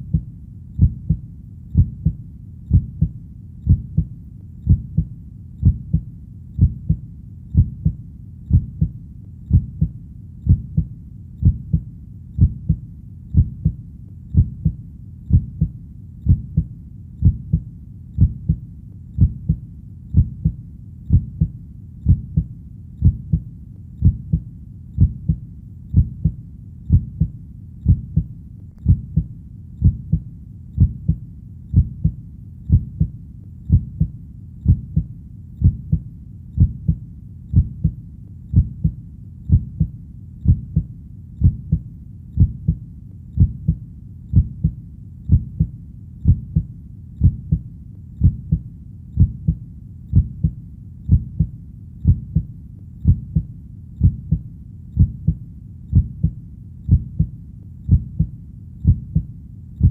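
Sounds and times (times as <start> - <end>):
heartbeat double thump: 0.0 - 1.2, 1.8 - 4.1, 4.7 - 7.0, 7.6 - 9.9, 10.5 - 11.8, 12.4 - 12.8, 13.4 - 13.8, 14.4 - 15.7, 16.3 - 17.6, 19.2 - 19.6, 20.2 - 24.4, 25.0 - 30.2, 30.8 - 33.1, 33.7 - 36.0, 36.6 - 41.8, 42.4 - 42.8, 43.4 - 47.6, 48.2 - 48.6, 49.2 - 54.4, 55.0 - 57.3, 57.9 - 59.9.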